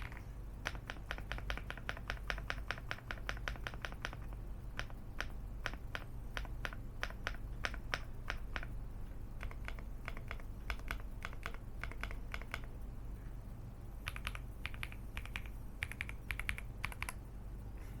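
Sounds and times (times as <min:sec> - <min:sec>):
mechanical keyboard typing: 0:00.0 - 0:12.8, 0:14.0 - 0:17.3.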